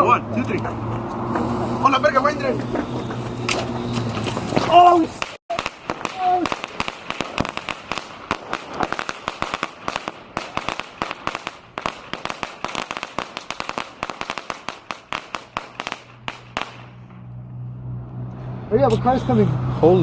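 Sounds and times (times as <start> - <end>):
fireworks bangs and crackles: 0.7 - 17.3.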